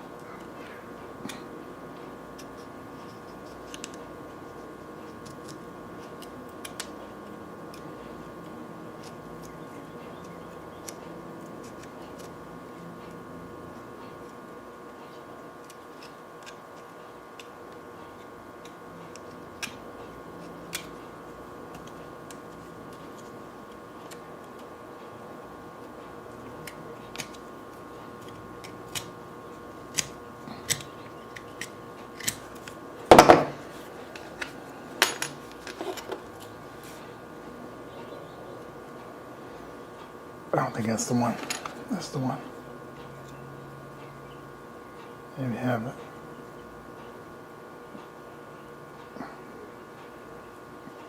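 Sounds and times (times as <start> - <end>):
steady electrical hum: 0.0 - 51.0.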